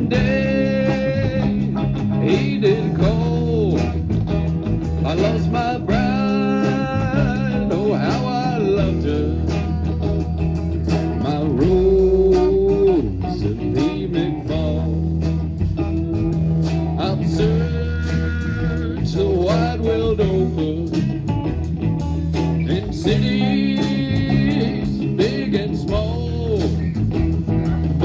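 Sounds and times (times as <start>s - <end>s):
live blues band: 0.0s - 28.0s.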